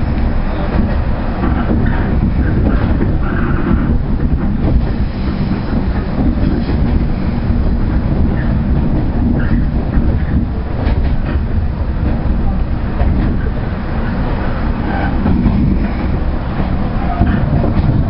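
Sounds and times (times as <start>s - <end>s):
train wheels rumbling: 0.0s - 18.0s
wheels clattering over rails: 0.0s - 18.0s.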